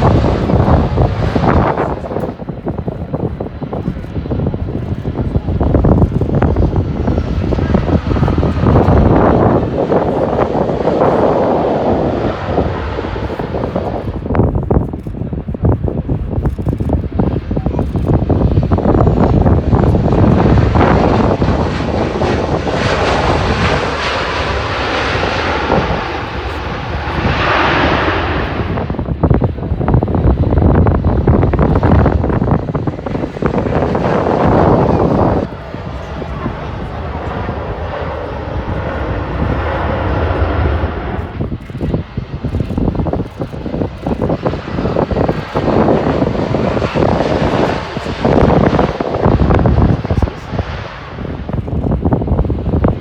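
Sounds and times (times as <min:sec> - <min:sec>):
airliner engines rushing: 0:00.0 - 0:53.0
wind buffeting microphone: 0:00.0 - 0:53.0.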